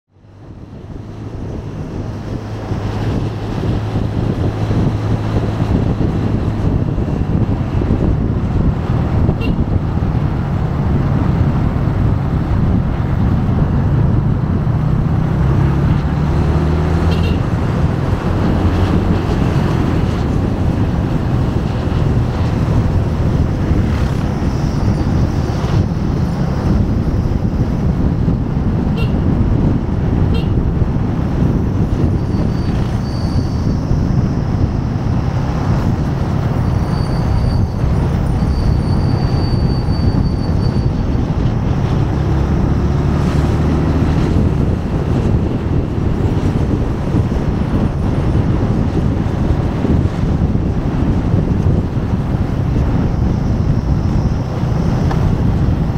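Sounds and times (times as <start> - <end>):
wind noise: 0.1 - 55.9.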